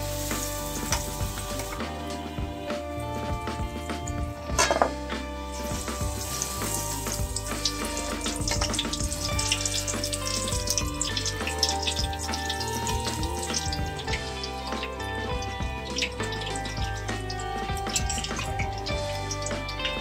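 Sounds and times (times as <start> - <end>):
background music: 0.0 - 20.0
deep-frying sizzle and crackle: 0.0 - 20.0.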